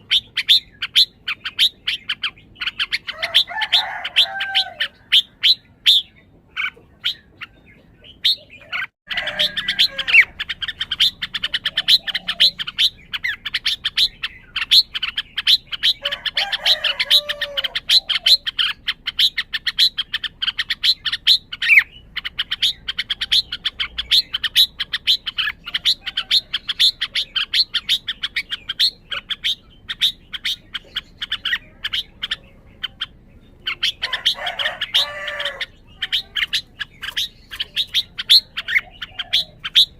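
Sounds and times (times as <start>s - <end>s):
bird chirping: 0.0s - 39.9s
bird warbling song: 0.0s - 39.9s.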